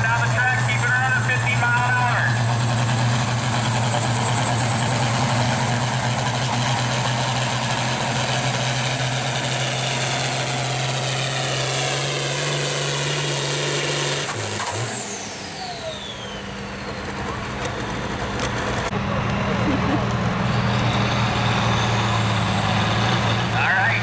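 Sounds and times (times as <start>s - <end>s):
tractor engine at full throttle: 0.0s - 24.0s.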